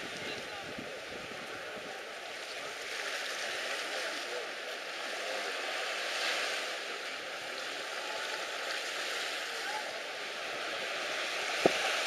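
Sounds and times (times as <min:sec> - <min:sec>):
sea water rushing: 0:00.0 - 0:12.0
wind: 0:00.0 - 0:12.0.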